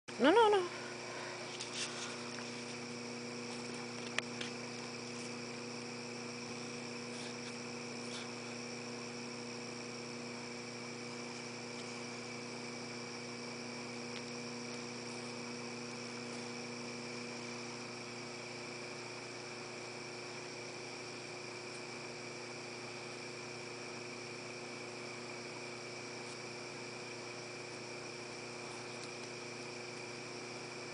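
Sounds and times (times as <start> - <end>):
crickets chirping: 0.1 - 30.9
steady low hum: 0.1 - 30.9.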